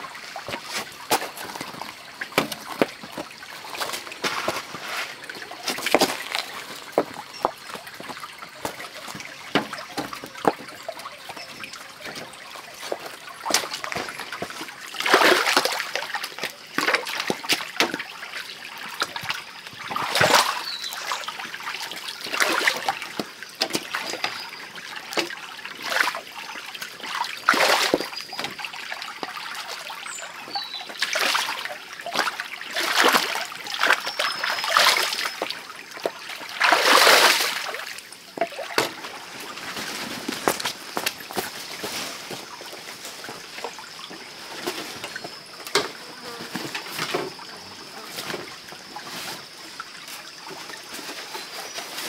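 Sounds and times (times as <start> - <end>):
stream trickling: 0.0 - 52.0
stones splashing into stream: 0.2 - 18.2, 18.8 - 26.2, 27.2 - 29.8, 30.5 - 46.0.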